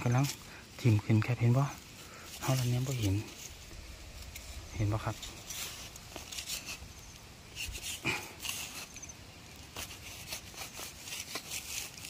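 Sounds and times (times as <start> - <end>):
grass and dry leaves rustling: 0.0 - 12.0.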